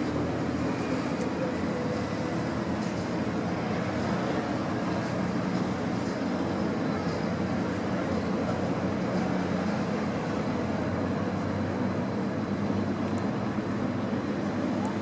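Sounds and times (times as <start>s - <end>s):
distant city traffic hum: 0.0s - 15.0s.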